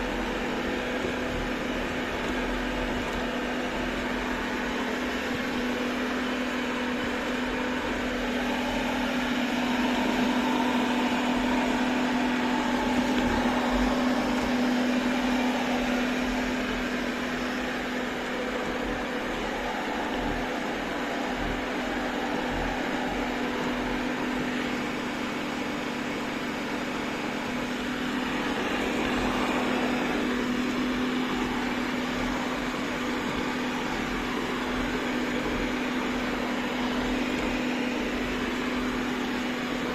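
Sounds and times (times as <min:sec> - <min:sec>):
robot vacuum cleaner humming: 0:00.0 - 0:39.9.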